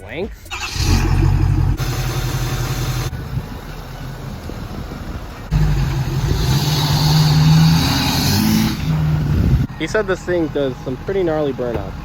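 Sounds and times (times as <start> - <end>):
truck engine revving: 0.3 - 12.0.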